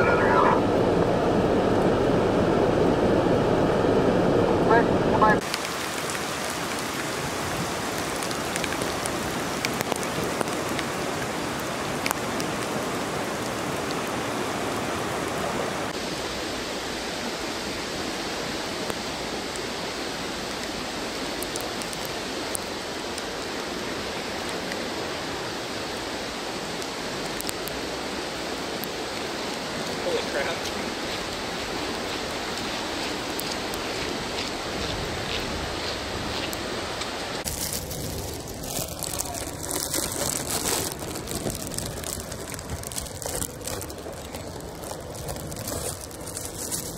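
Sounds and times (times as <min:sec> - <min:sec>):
floodwater rushing over road: 0:00.0 - 0:46.9
rain: 0:00.0 - 0:46.9.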